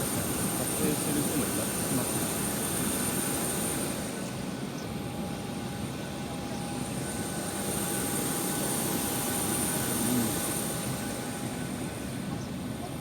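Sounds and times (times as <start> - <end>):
jet engine rushing and whining: 0.0 - 13.0.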